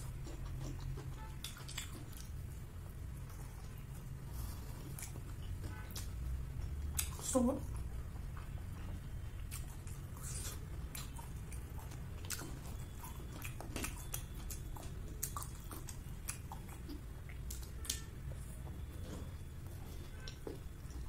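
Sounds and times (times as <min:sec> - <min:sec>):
person chewing food: 0:00.0 - 0:21.0
steady low hum: 0:00.0 - 0:21.0.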